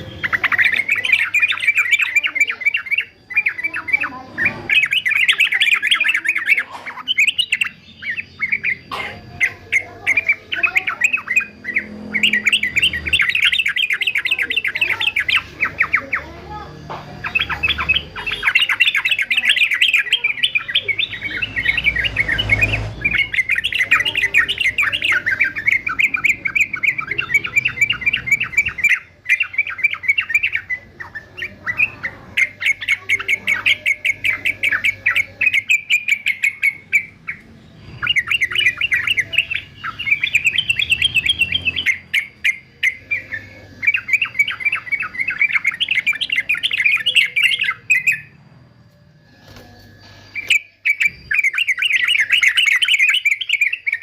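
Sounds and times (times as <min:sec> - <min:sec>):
bird singing rapid chattering notes: 0:00.0 - 0:54.0.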